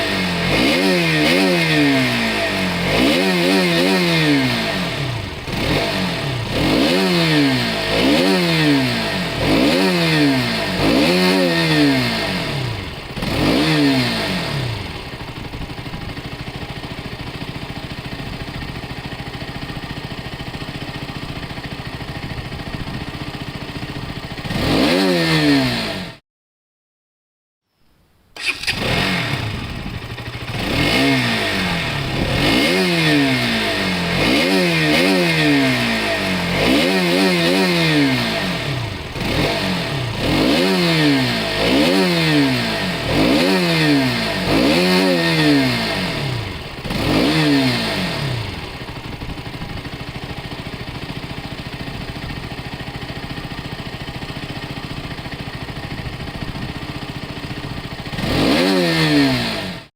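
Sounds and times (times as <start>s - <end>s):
motorcycle engine idling: 0.0s - 24.8s, 28.4s - 59.8s
motorcycle engine revving: 0.0s - 26.2s, 28.4s - 59.9s.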